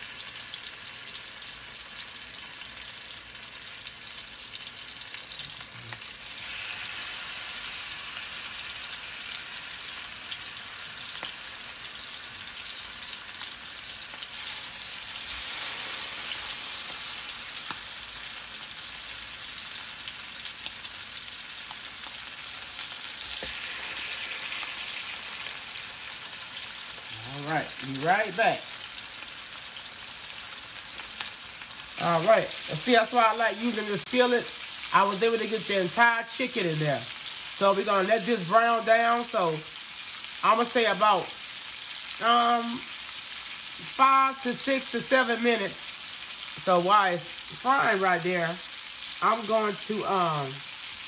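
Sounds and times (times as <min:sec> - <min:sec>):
chicken sizzling in oil: 0:00.0 - 0:51.0.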